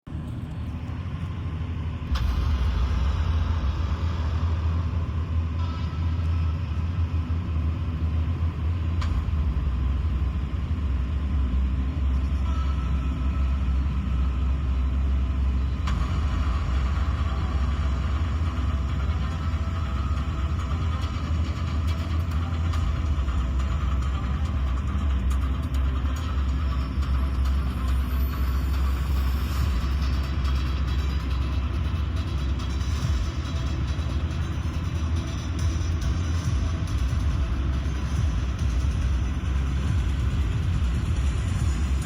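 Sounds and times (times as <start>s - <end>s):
trucks idling: 0.1s - 42.0s.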